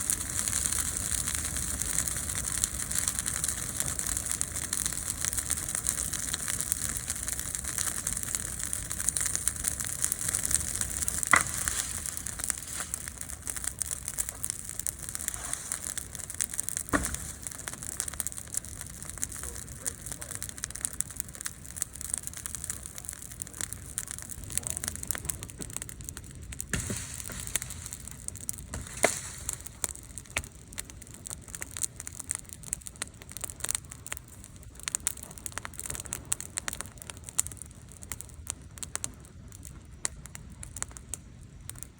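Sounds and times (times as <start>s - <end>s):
campfire hissing and crackling: 0.0s - 41.9s
fire pops: 0.0s - 41.9s.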